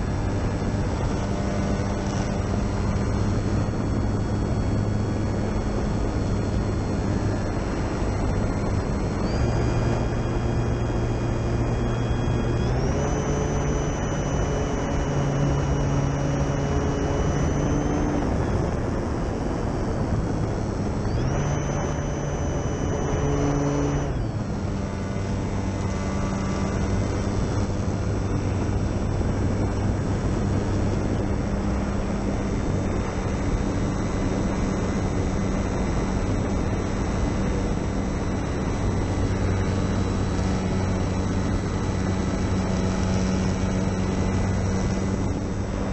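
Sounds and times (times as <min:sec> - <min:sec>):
electric motor and propeller whine: 0:00.0 - 0:45.9
steady rushing noise: 0:00.0 - 0:45.9.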